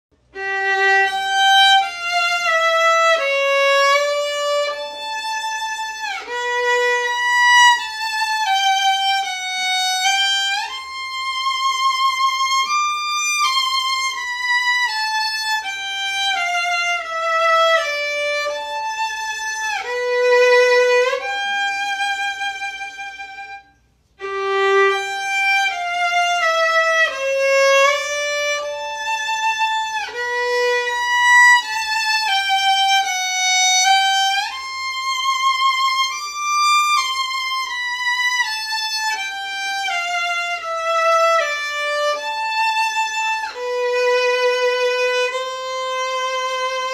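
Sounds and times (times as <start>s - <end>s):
solo violin slow melody: 0.2s - 46.9s.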